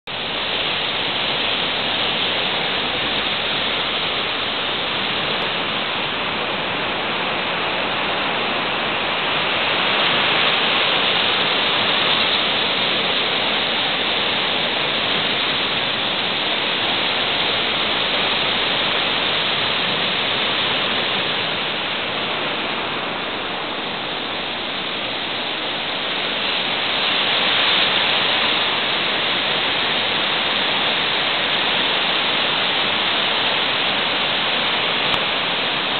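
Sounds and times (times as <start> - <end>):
floodwater rushing over rapids: 0.0 - 35.9.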